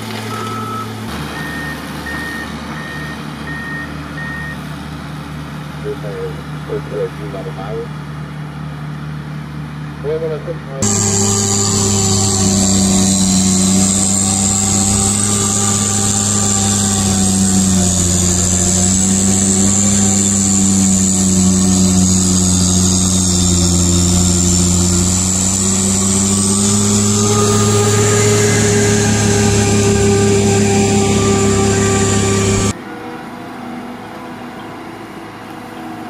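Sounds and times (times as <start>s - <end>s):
snowblower engine drone: 0.0s - 36.0s.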